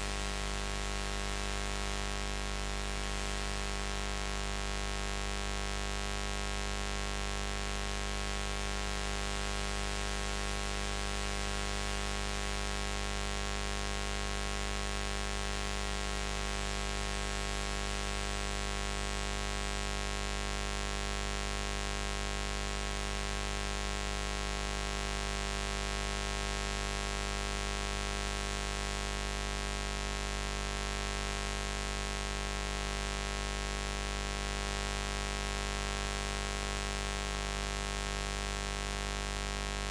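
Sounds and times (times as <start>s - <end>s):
continuous low buzz: 0.0s - 39.9s.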